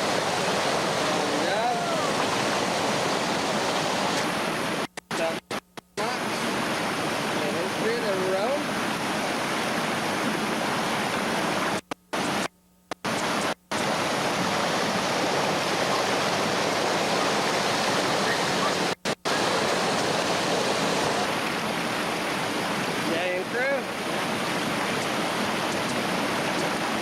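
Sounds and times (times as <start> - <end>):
river whitewater rushing: 0.0 - 4.9, 6.0 - 27.0.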